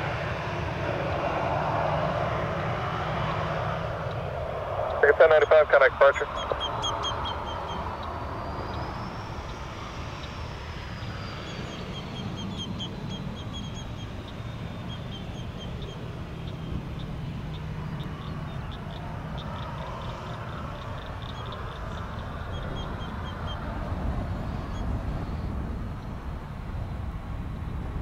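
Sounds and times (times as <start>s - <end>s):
jet engines rumbling: 0.0s - 28.0s
birds chirping: 2.6s - 26.3s.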